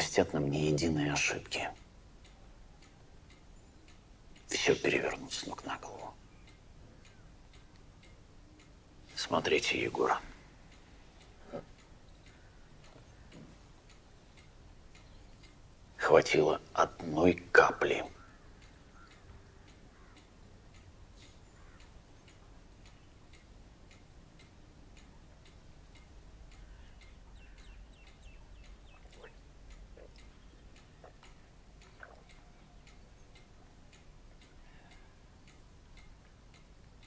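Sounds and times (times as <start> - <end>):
clock ticking: 0.0 - 37.0
low room hum: 0.0 - 37.0.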